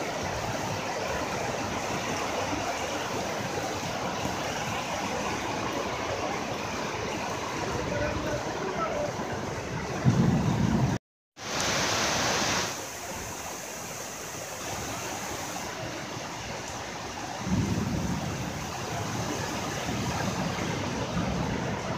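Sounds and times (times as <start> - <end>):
floodwater running along street: 0.0 - 21.9
heavy rain falling: 0.0 - 21.9.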